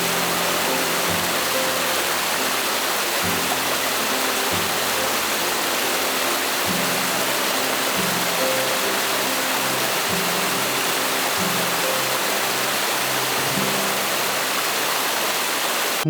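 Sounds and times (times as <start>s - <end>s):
soft background music: 0.0s - 14.7s
flowing river water: 0.0s - 16.0s.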